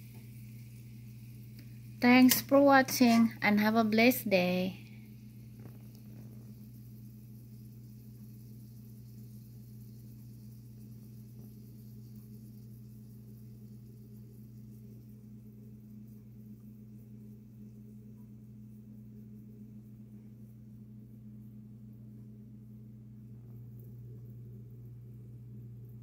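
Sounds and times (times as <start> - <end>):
faint hiss: 0.0 - 26.0
steady low two-pitch hum: 0.0 - 26.0.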